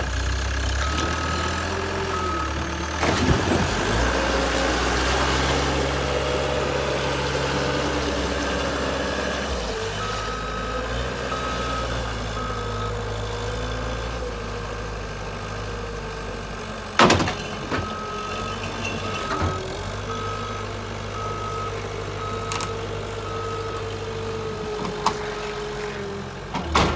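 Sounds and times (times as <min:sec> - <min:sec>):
skid steer engine running: 0:00.0 - 0:26.9.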